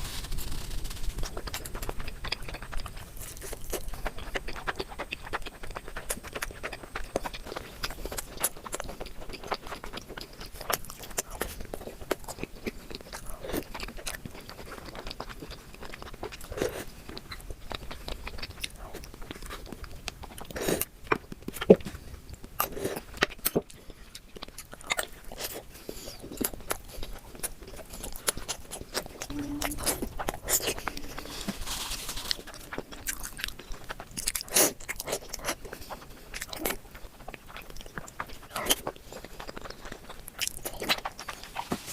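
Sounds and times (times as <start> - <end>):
mouth chewing food: 0.0 - 41.9.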